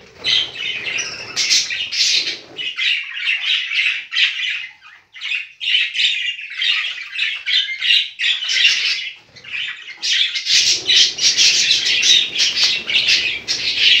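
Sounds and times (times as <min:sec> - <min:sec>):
budgerigars chattering and squawking: 0:00.0 - 0:14.0.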